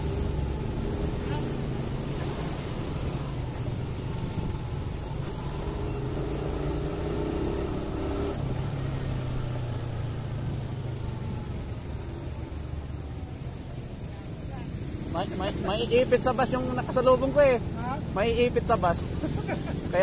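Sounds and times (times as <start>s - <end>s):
traffic engines humming: 0.0s - 20.0s.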